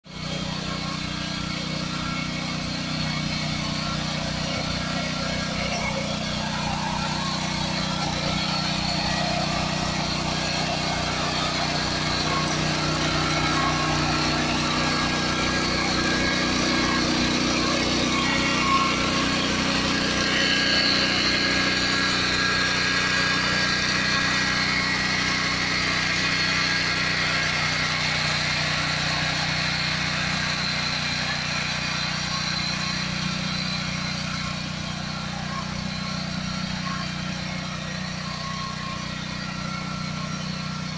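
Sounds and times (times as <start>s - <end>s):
petrol engine running under load: 0.1s - 40.9s
tines churning soil: 0.1s - 40.9s.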